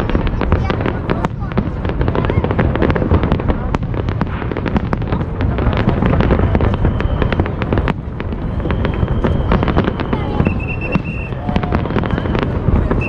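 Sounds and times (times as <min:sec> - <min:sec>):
fireworks bursting with bangs and crackling: 0:00.0 - 0:13.0.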